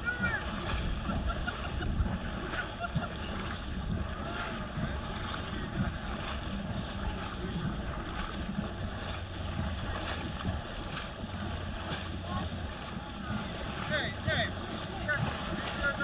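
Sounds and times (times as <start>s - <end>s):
shallow sea water washing: 0.0s - 16.0s
wind buffeting microphone: 0.0s - 16.0s.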